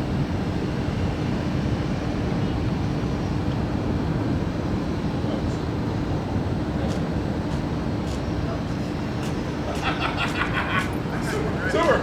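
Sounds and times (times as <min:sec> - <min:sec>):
jet engines rumbling: 0:01.2 - 0:12.0.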